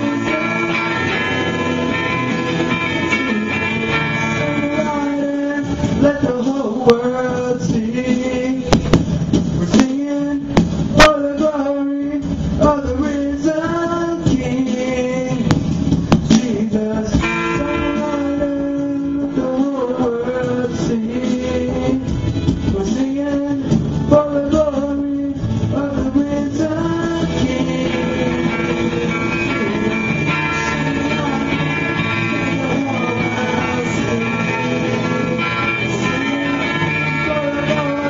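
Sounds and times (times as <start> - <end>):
man singing into a microphone: 0.0 - 9.0, 9.6 - 38.0
strummed electric guitar: 0.0 - 38.0.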